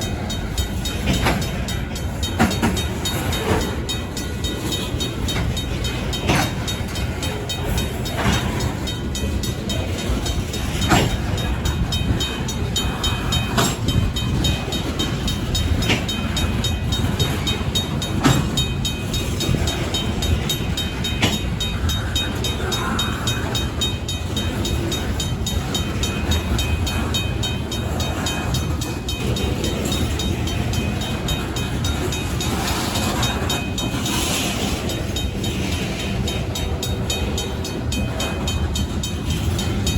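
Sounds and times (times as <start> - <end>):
crossing bell ringing: 0.0 - 39.9
train wheel clunks: 0.0 - 39.9
train wheels rumbling: 0.0 - 39.9.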